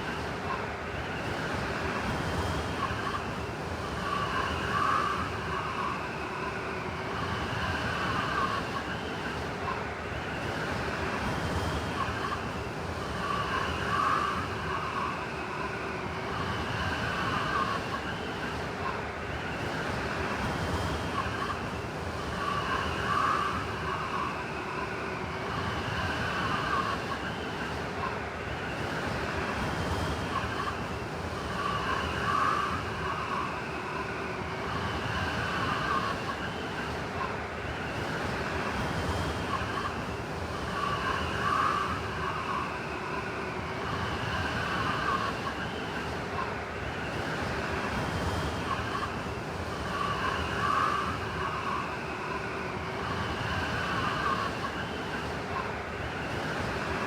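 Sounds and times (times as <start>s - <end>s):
blizzard wind whistling: 0.0s - 57.0s.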